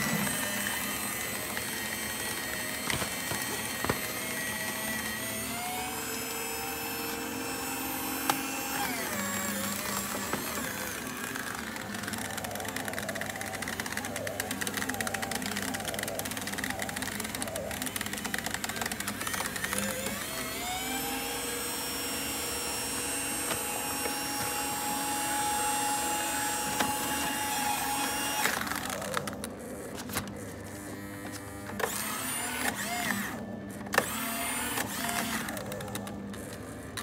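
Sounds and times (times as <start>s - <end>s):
paper shredder motor whining: 0.0s - 37.0s
shredder whirring with clicks: 0.0s - 37.0s.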